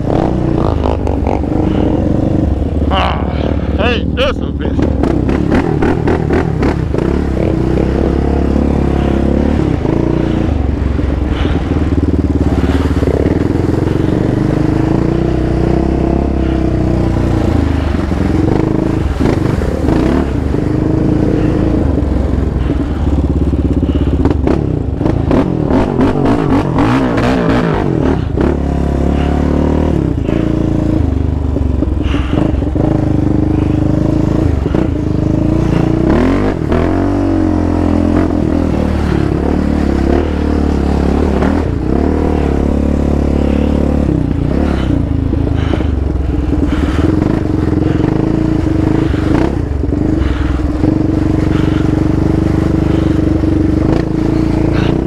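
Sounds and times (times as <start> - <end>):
quad rattling over rough ground: 0.0 - 27.2, 29.0 - 55.0
quad engine revving under load: 0.0 - 55.0.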